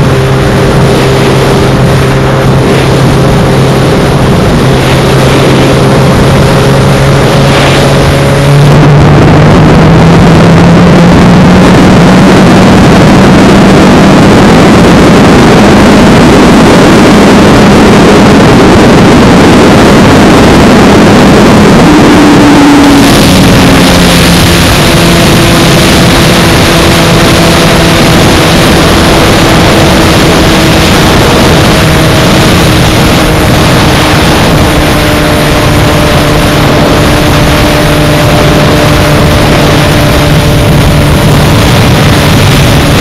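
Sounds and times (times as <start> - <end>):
heavy wind noise on microphone: 0.0 - 43.0
motorcycle engine running: 0.0 - 43.0.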